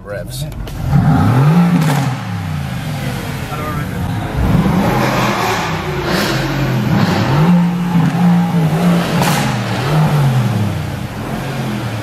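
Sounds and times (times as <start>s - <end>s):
car engine revving: 0.3s - 12.0s.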